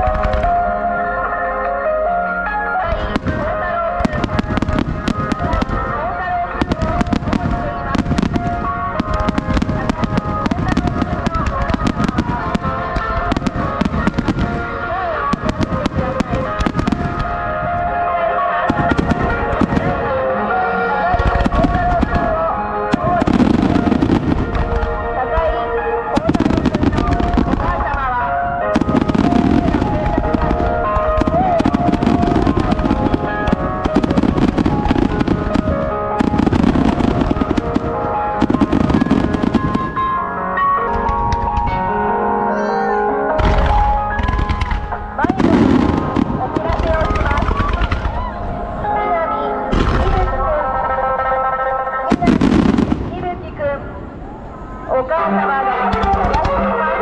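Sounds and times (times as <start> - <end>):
fireworks popping and crackling: 0.0 - 0.6, 3.0 - 17.8, 18.7 - 42.0, 43.4 - 48.7, 49.7 - 50.6, 52.1 - 53.6, 55.9 - 56.8
music: 0.0 - 57.0.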